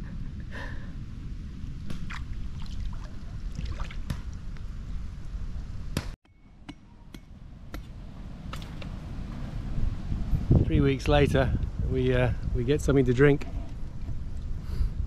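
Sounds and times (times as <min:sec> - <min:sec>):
wind rumbling on microphone: 0:00.0 - 0:06.1, 0:07.4 - 0:15.0.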